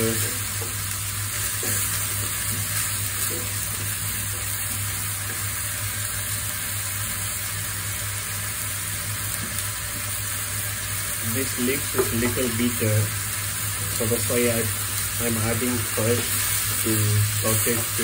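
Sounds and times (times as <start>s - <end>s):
leaves sizzling in a pan: 0.0s - 18.0s.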